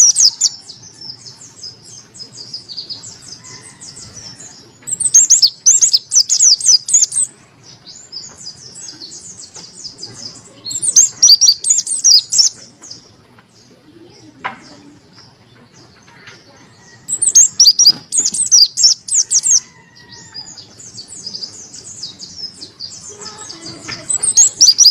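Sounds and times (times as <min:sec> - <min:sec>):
bird chattering song: 0:00.0 - 0:24.9
soft bird twittering: 0:00.0 - 0:24.9.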